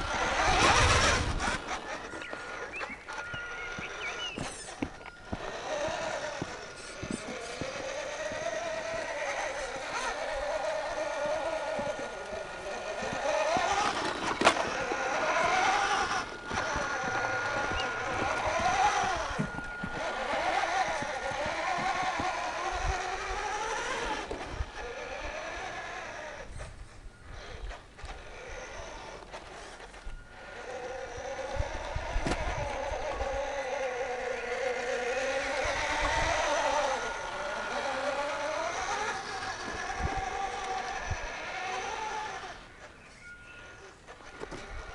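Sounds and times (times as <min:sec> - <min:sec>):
model truck drive whine: 0:00.0 - 0:44.9.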